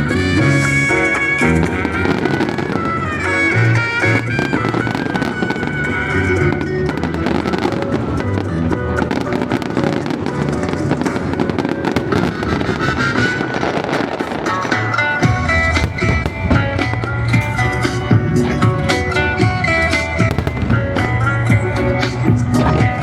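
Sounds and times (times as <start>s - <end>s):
fireworks crackling and popping: 0.0s - 23.0s
loud music: 0.0s - 23.0s.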